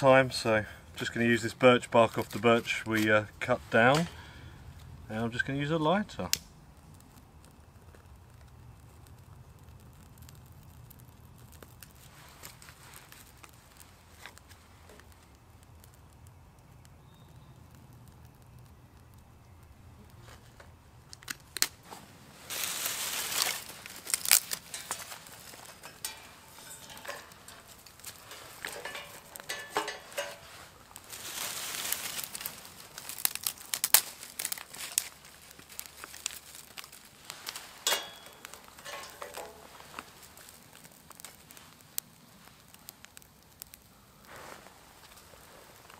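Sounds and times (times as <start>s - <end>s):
dry twigs rustling and snapping: 1.0s - 5.0s, 6.1s - 45.9s.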